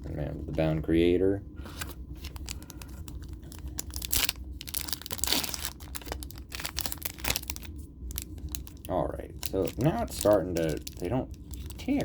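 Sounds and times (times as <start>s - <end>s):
foil wrapper crinkling: 2.2s - 12.0s
foil wrapper ripping: 2.2s - 12.0s.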